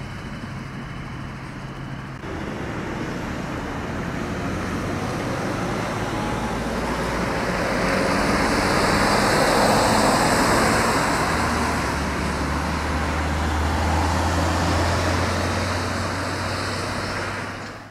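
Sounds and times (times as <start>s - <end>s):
low engine hum: 0.0s - 17.9s
ambulance driving past: 1.0s - 17.9s.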